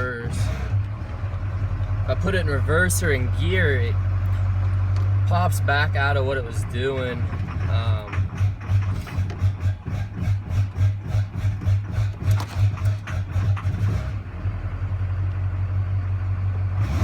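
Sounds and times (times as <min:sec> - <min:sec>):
diesel engine idling roughly: 0:00.0 - 0:16.8.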